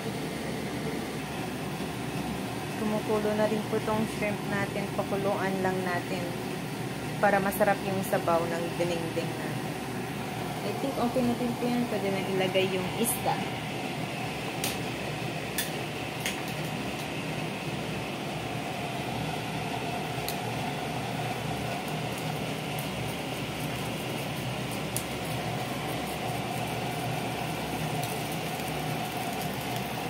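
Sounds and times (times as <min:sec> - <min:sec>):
pot boiling and bubbling: 0:00.0 - 0:30.0
hot oil sizzling in a pan: 0:01.1 - 0:30.0.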